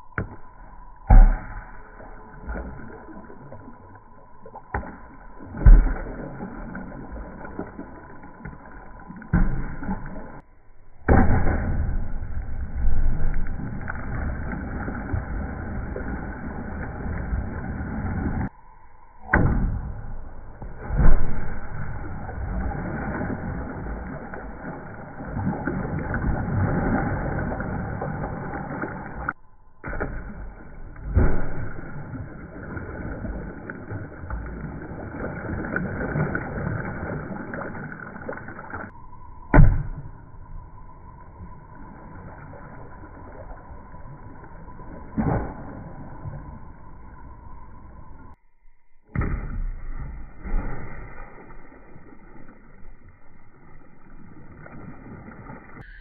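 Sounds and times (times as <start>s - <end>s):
objects splashing into water: 0.0s - 18.5s, 19.3s - 38.9s, 42.2s - 47.5s, 49.1s - 56.0s
churning water: 1.0s - 18.5s, 20.5s - 40.0s, 40.9s - 48.4s, 49.1s - 56.0s.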